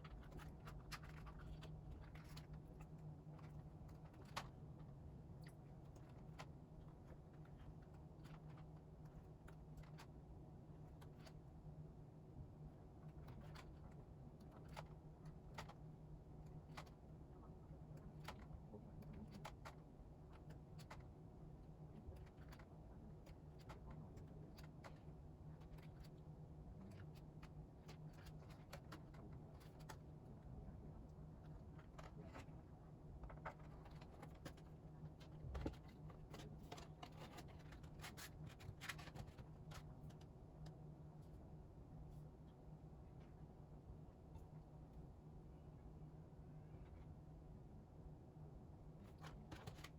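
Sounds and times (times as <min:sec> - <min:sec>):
low steady hum: 0:00.0 - 0:49.9.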